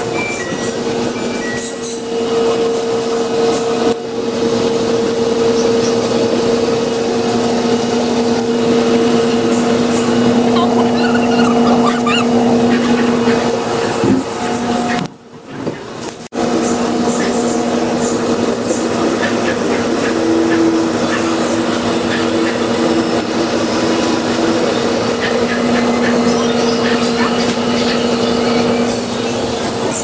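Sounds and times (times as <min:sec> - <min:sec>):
motor humming: 0:00.0 - 0:30.0.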